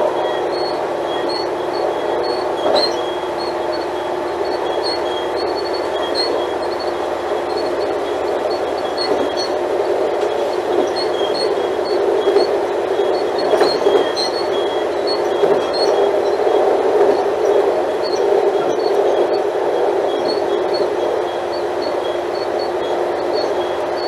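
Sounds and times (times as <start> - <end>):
diesel train engine drone: 0.0 - 24.0.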